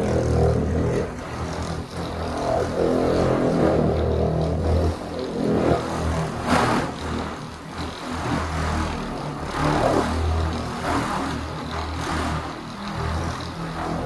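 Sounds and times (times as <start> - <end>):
electric polisher motor hum: 0.0 - 14.0.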